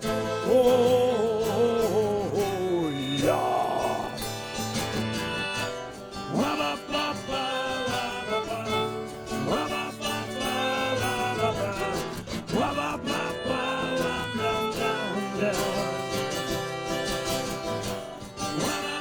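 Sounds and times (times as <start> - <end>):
acoustic guitar: 0.0 - 19.0.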